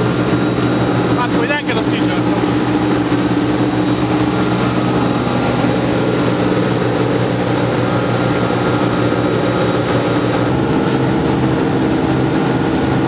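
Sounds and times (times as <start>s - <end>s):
water rushing: 0.0s - 12.6s
motorboat engine droning: 0.0s - 13.0s.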